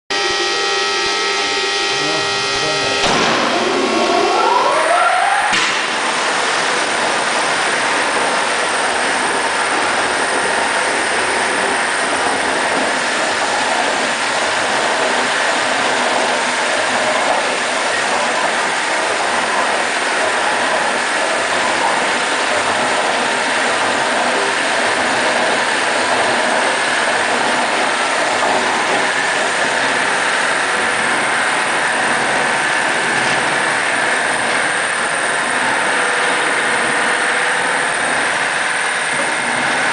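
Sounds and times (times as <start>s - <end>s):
press machine running: 0.1s - 39.9s.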